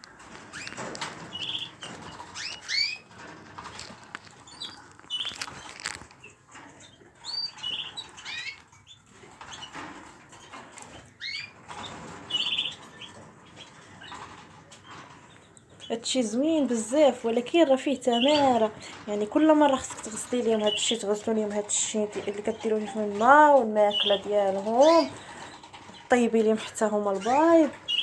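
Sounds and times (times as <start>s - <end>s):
small clicks and scratches: 0.0s - 28.0s
small birds chirping: 0.1s - 28.0s.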